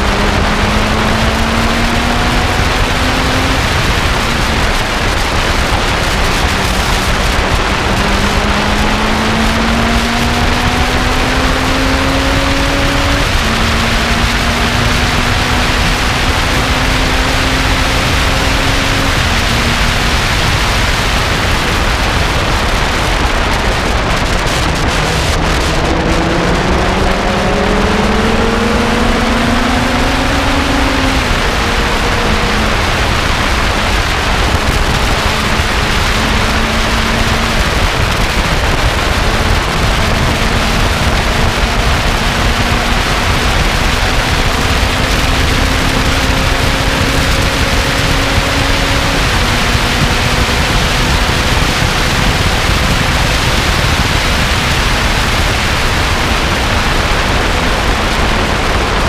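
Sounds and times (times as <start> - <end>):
race car engine accelerating: 0.0 - 59.0
wind and road noise: 0.0 - 59.0.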